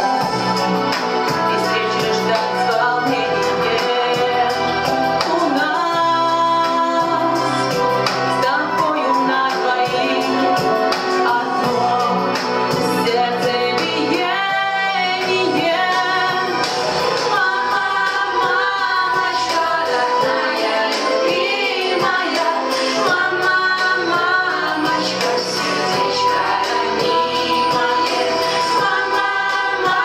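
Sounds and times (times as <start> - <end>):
pop instrumental backing: 0.0 - 30.0
woman singing: 1.0 - 30.0.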